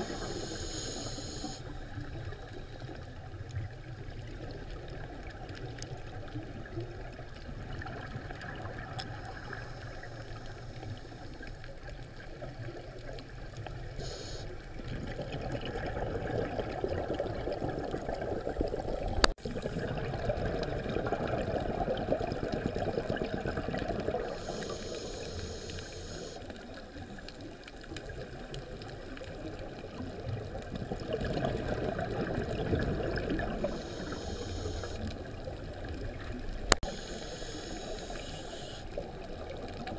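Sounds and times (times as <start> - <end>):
underwater water and bubbles: 0.0 - 39.9.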